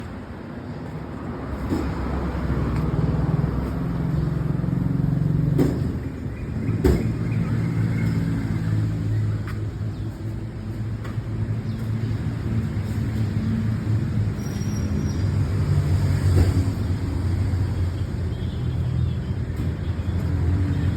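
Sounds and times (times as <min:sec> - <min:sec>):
vehicle engine humming: 0:00.0 - 0:20.9.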